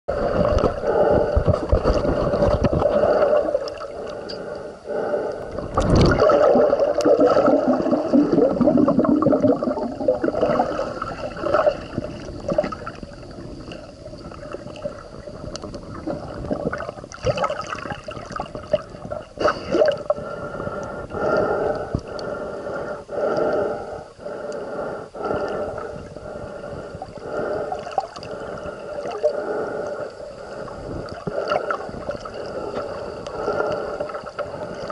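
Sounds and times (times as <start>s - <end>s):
muffled underwater gurgling: 0.1s - 34.9s.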